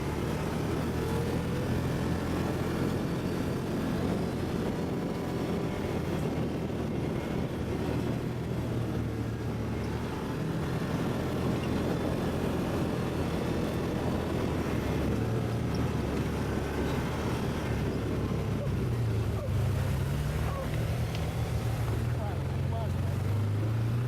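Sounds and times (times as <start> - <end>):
atv engine humming: 0.0 - 24.0.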